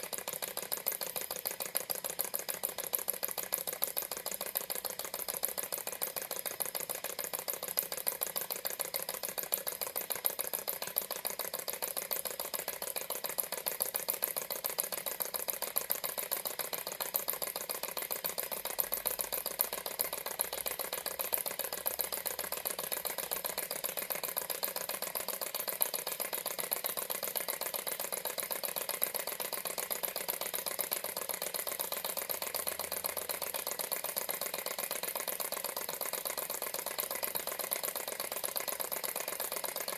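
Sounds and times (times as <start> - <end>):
model engine mechanical rattle: 0.0 - 39.9.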